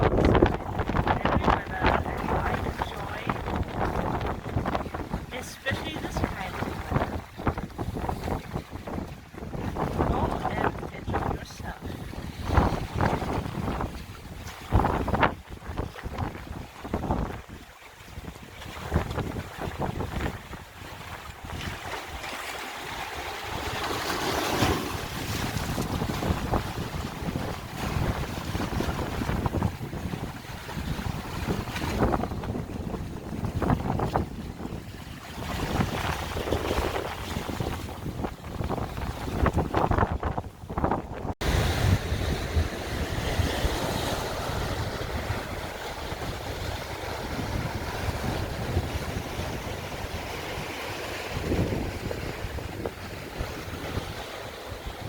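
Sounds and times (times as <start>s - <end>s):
sea waves washing: 0.0s - 55.0s
strong wind: 0.0s - 55.0s
wind buffeting microphone: 0.0s - 55.0s.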